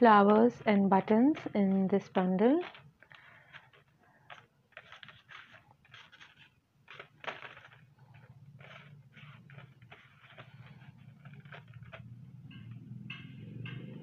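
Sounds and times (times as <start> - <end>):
hands rustling patches on paper: 0.0 - 12.7.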